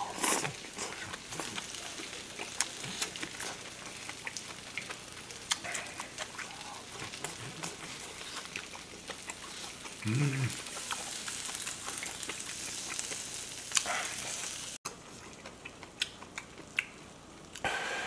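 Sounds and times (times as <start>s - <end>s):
person chewing wetly: 0.0s - 14.2s, 14.9s - 17.0s
grill pan sizzling: 0.0s - 14.8s.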